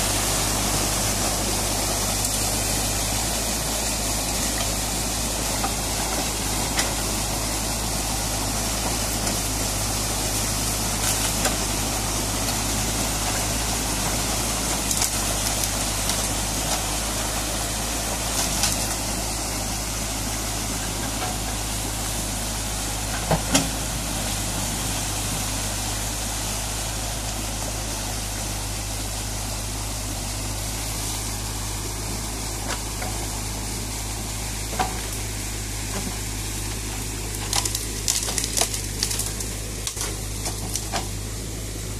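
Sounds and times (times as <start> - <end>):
excavator engine running: 0.0 - 41.9
water gushing through dam breach: 0.0 - 41.9.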